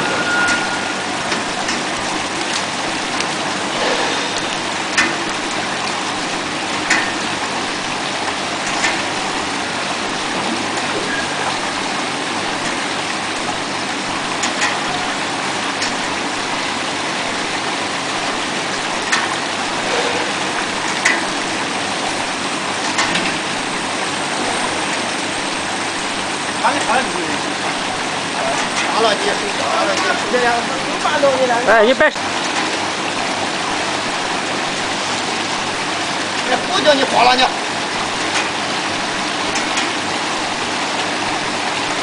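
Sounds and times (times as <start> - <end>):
water rushing and splashing: 0.0 - 42.0.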